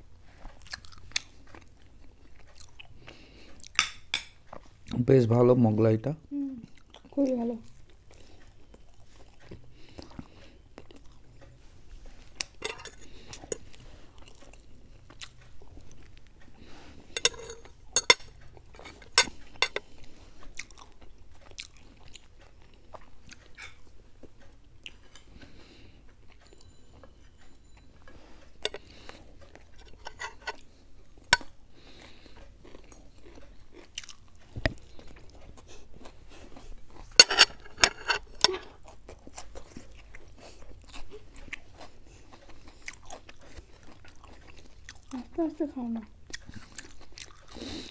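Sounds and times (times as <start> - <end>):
people chewing fried food: 0.0 - 47.9.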